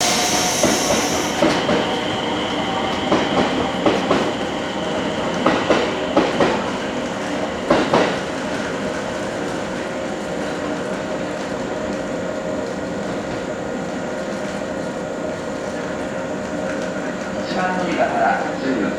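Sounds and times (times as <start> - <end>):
train running rumble: 0.0 - 18.9.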